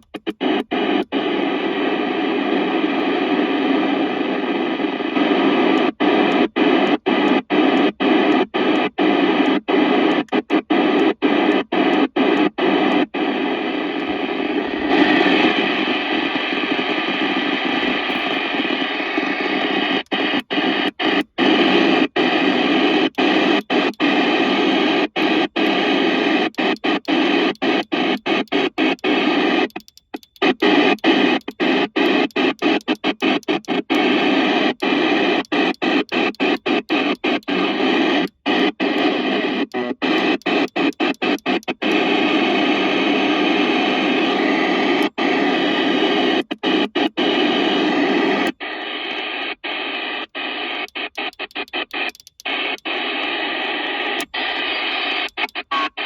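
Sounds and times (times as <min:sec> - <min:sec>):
radio receiver hiss: 0:00.0 - 0:56.0.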